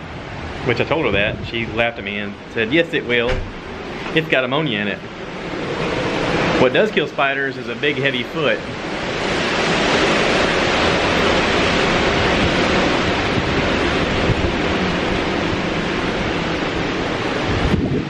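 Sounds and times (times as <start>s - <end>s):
wind buffeting microphone: 0.0s - 7.0s, 8.1s - 18.0s
heavy rain: 0.0s - 18.0s
strong wind: 0.0s - 18.0s.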